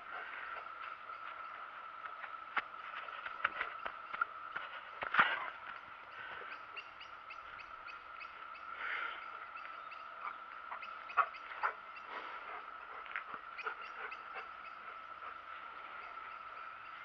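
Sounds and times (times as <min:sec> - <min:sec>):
frogs trilling: 0:03.2 - 0:17.0.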